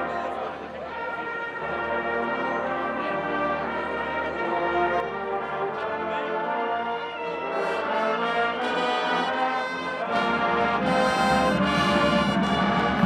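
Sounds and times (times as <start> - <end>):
brass section playing chords: 0.0 - 13.0.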